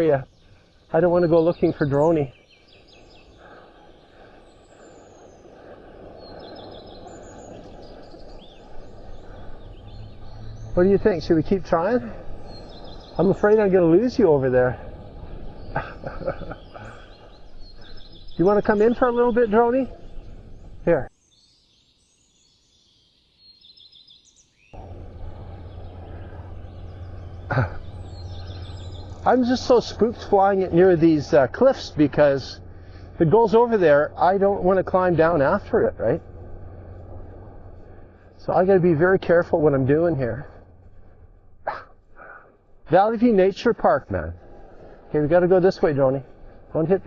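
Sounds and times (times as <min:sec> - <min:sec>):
wind buffeting microphone: 0:00.0 - 0:21.1, 0:24.8 - 0:47.0
small birds chirping: 0:00.0 - 0:47.0.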